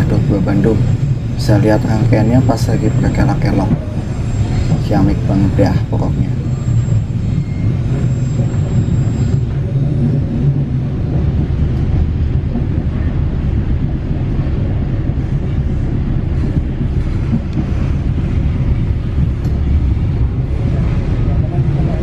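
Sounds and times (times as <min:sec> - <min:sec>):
train wheels rumbling on rails: 0:00.0 - 0:22.0
wind noise: 0:00.0 - 0:22.0.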